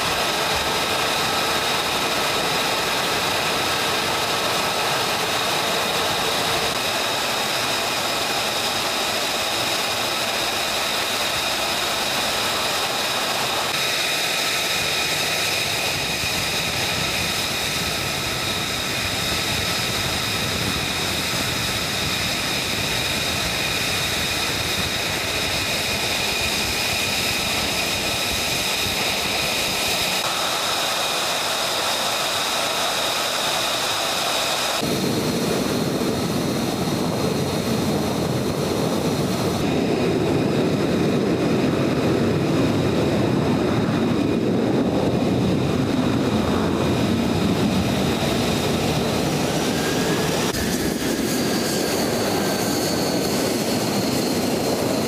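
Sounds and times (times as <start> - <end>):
jet engine idling with whine: 0.0 - 55.0.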